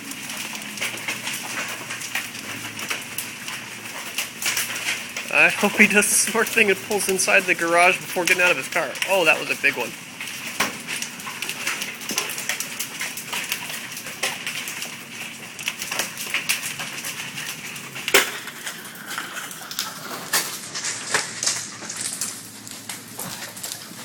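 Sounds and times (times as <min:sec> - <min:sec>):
hailstones clattering on pavement: 0:00.0 - 0:24.0.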